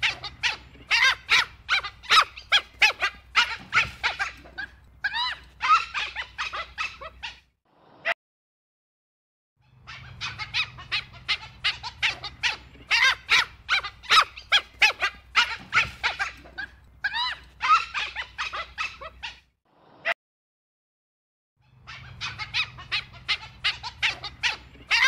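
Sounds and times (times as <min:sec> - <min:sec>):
wild dog squeaky calls: 0:00.0 - 0:07.5, 0:09.6 - 0:19.5, 0:21.6 - 0:25.0.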